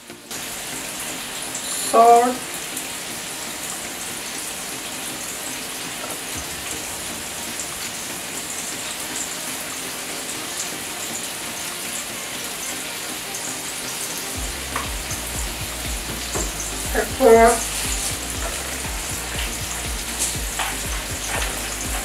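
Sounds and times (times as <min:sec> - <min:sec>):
burger patties sizzling on griddle: 0:00.3 - 0:22.0.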